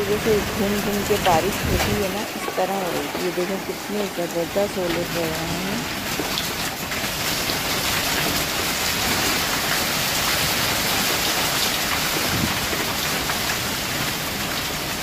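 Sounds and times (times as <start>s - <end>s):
hailstones ticking: 0.0s - 15.0s.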